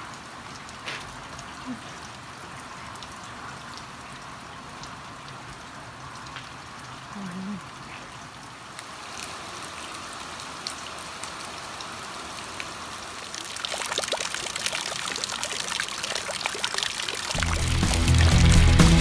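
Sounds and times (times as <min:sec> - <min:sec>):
rain falling: 0:00.0 - 0:19.0
rain splashing into water barrel: 0:00.0 - 0:19.0
trickle of running water: 0:00.0 - 0:19.0.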